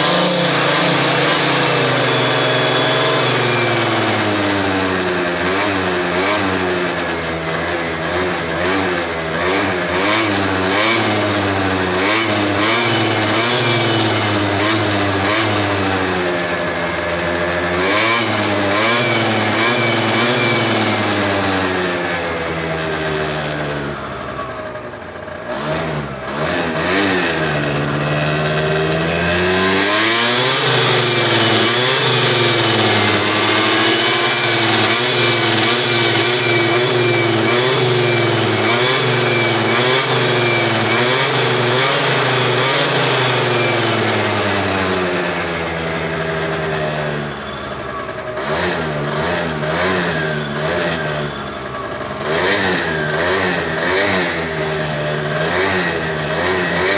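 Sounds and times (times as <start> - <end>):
scooter engine revving: 0.0 - 56.9.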